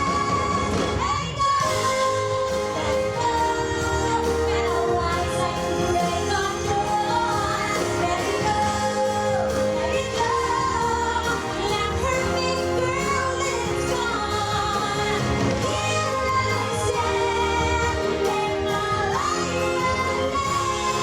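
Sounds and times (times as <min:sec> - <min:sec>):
soundtrack music: 0:00.0 - 0:21.0.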